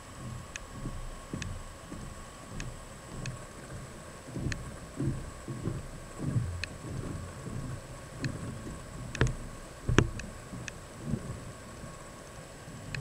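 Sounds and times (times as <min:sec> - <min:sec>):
footsteps on wooden boardwalk: 0:00.0 - 0:11.7.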